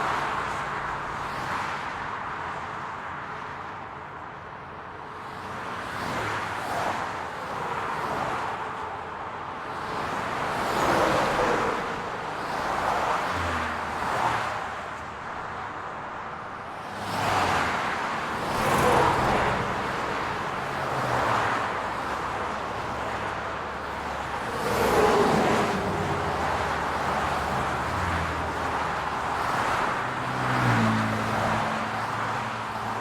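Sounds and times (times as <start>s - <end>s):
cars passing by: 0.0s - 33.0s
road traffic hum: 0.0s - 33.0s.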